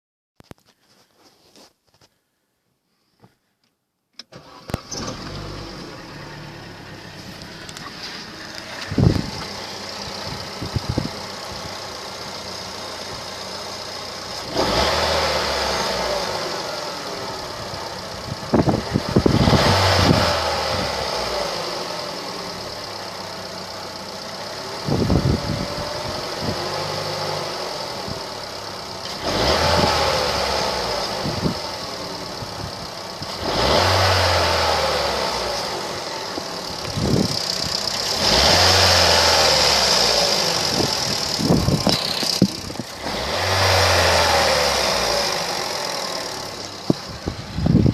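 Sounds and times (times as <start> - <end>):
extraneous engine noise: 4.3 - 47.9
car engine running: 4.4 - 47.9.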